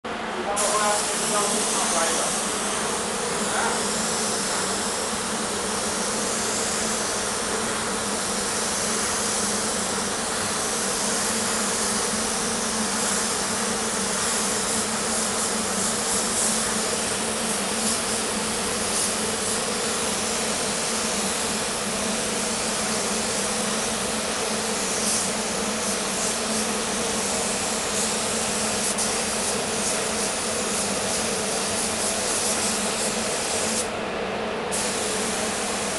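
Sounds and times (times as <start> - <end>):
paint spray gun hissing: 0.6 - 33.9, 34.7 - 35.9.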